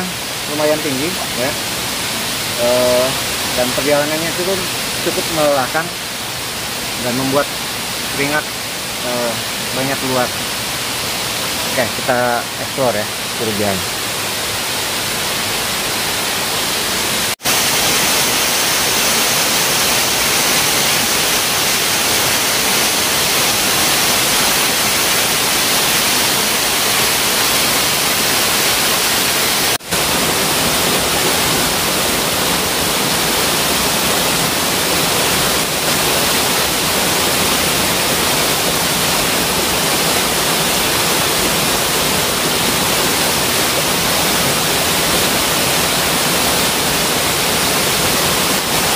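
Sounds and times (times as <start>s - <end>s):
waterfall roaring: 0.0s - 48.9s.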